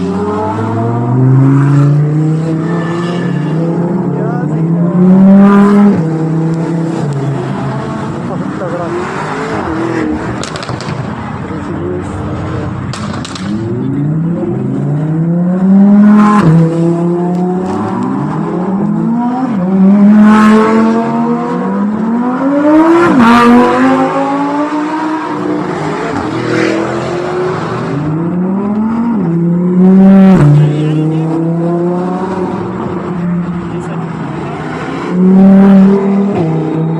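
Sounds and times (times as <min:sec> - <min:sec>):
car engines revving past: 0:00.0 - 0:36.9.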